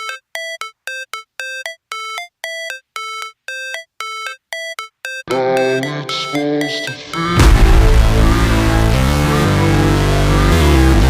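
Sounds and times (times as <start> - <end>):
electronic beeping melody: 0.0 - 11.0.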